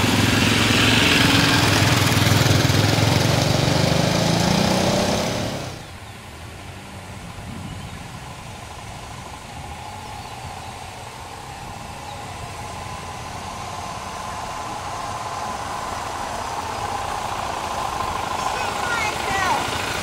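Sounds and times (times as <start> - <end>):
motorcycles approaching on dirt road: 0.0 - 20.0.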